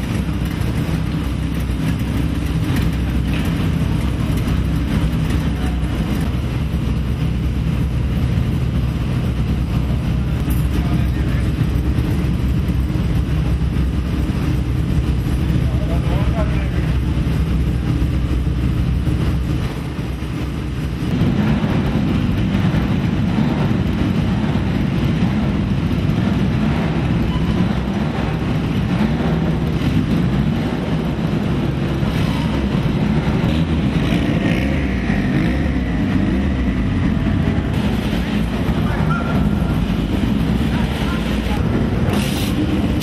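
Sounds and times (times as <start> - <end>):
car engines rumbling: 0.0 - 43.0.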